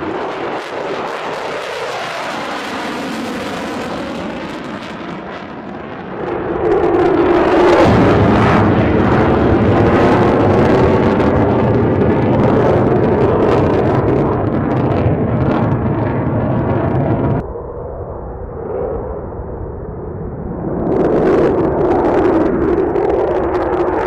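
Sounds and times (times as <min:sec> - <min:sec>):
jet engines roaring overhead: 0:00.0 - 0:24.0.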